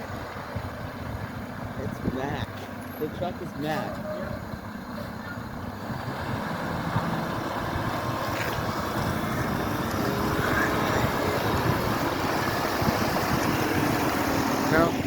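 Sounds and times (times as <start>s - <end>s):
garbage truck diesel engine running: 0.0s - 15.0s.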